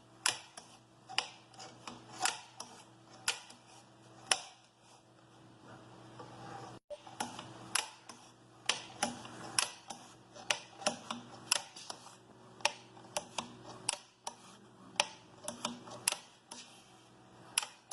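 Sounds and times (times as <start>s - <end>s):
grinder clicks and taps: 0.2s - 4.8s, 6.9s - 16.8s, 17.5s - 17.9s.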